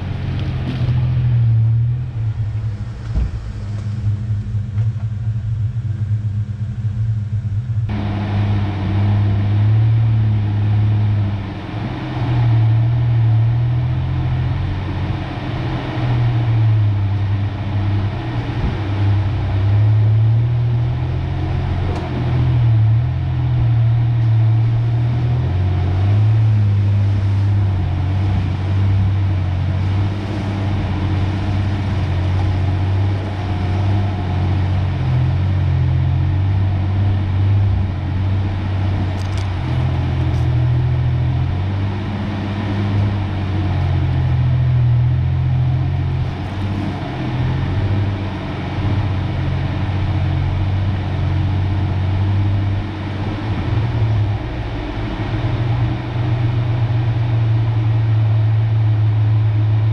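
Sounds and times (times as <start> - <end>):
pickup engine running: 0.0 - 59.9
tyre and road noise: 0.0 - 59.9.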